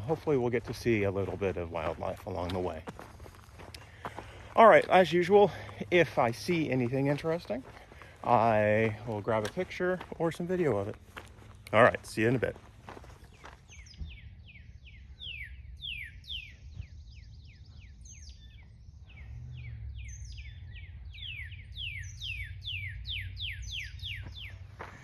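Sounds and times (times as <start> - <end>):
birds chirping: 0.0 - 25.0
steady low rumble: 0.0 - 25.0.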